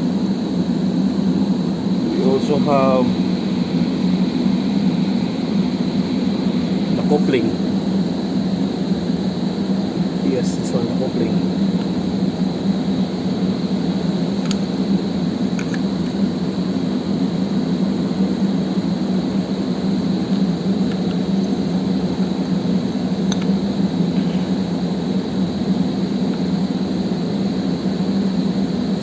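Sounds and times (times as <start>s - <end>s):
high whine: 0.0s - 29.0s
machine hum and whir: 0.0s - 29.0s.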